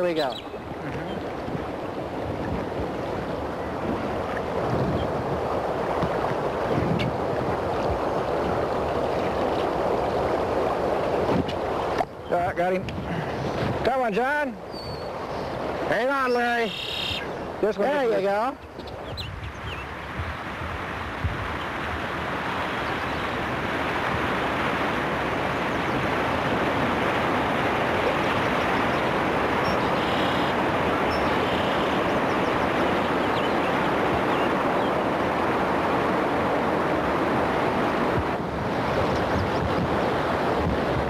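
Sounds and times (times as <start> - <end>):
river water rushing over rocks: 0.0 - 18.4, 19.9 - 41.0.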